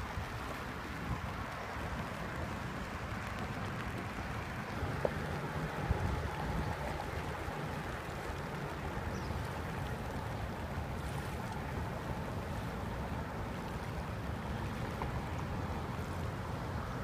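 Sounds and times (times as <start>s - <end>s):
river current rushing: 0.0s - 17.0s
wind rumble on microphone: 0.0s - 17.0s.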